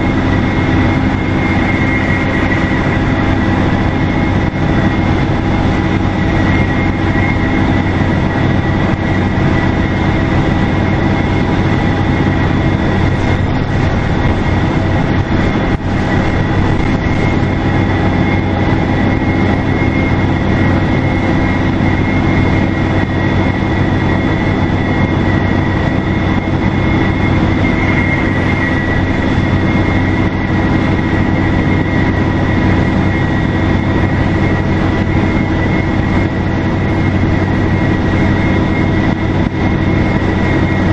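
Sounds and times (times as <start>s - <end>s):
bus diesel engine running: 0.0s - 40.9s
high turbo whistle: 0.0s - 40.9s
road noise: 0.0s - 40.9s.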